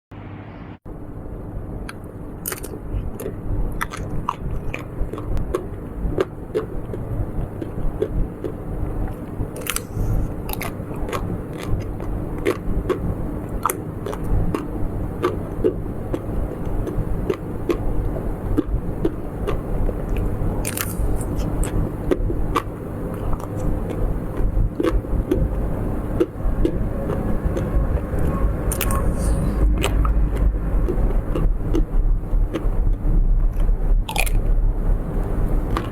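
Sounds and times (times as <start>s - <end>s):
steady low hum: 0.1s - 35.9s
chewing crunchy snacks: 1.9s - 35.9s.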